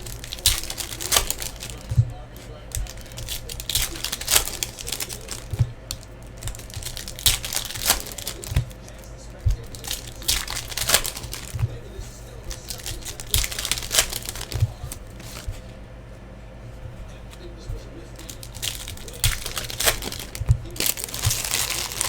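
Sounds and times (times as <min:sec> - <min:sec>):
foil wrappers crinkling and tearing: 0:00.0 - 0:15.8, 0:17.0 - 0:22.0.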